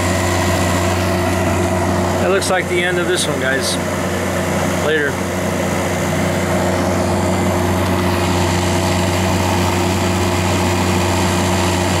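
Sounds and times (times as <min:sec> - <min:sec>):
refrigeration compressor humming: 0:00.0 - 0:12.0.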